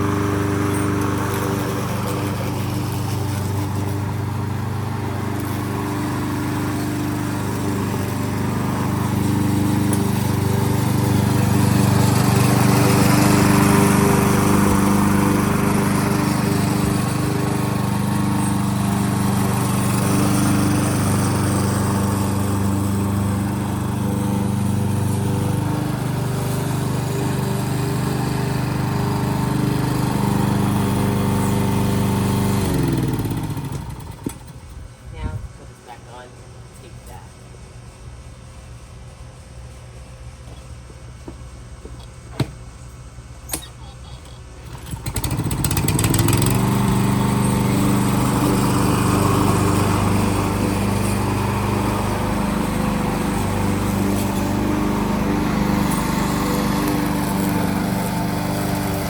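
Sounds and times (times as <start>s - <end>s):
lawnmower cutting grass: 0.0s - 34.6s, 44.6s - 59.0s.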